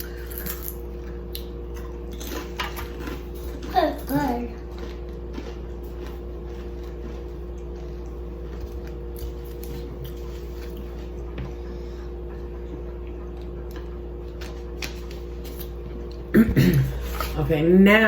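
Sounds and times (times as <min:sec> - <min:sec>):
faint chewing: 0:00.0 - 0:17.4
steady low hum: 0:00.0 - 0:18.0.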